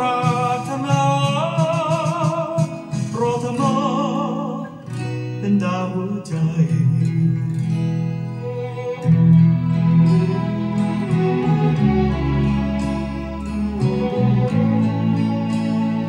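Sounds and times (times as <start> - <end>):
picked guitar over bass: 0.0 - 16.0.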